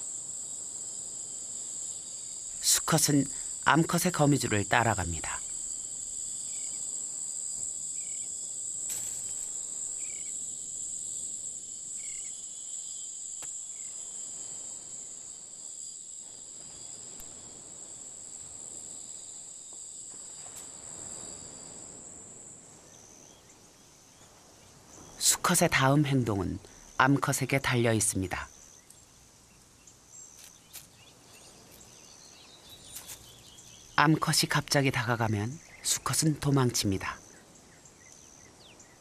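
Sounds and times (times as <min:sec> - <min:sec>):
insects trilling drone: 0:00.0 - 0:39.0.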